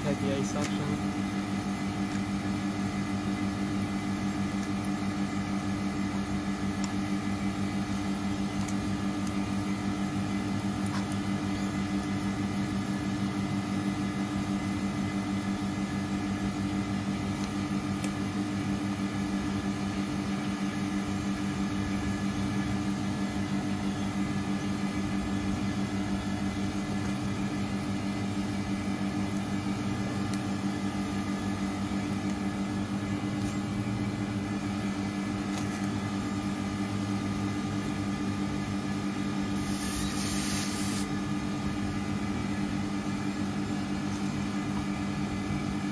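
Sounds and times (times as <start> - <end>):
air conditioner unit humming: 0.0 - 45.9.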